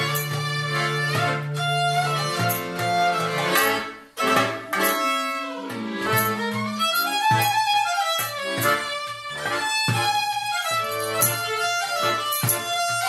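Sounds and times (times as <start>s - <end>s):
hand-drum strokes: 0.0s - 13.0s
violin melody: 0.0s - 13.0s.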